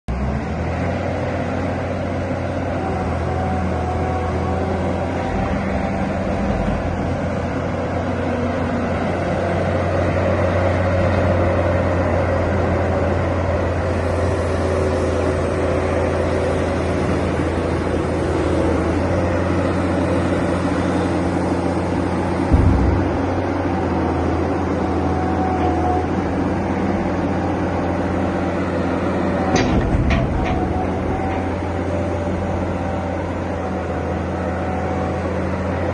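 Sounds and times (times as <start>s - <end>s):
excavator diesel engine hum: 0.1s - 35.9s.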